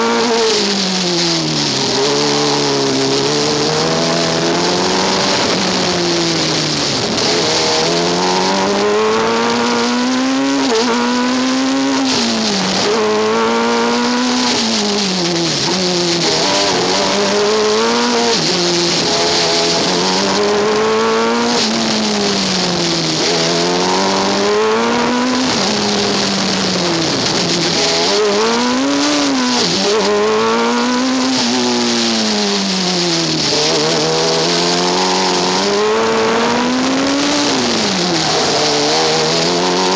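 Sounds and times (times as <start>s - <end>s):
race car engine revving: 0.0s - 39.9s
wind and road noise hiss: 0.2s - 39.9s.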